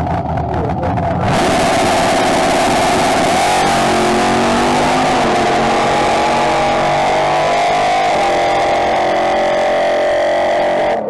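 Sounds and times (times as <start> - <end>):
race car engine full throttle: 0.0 - 11.0.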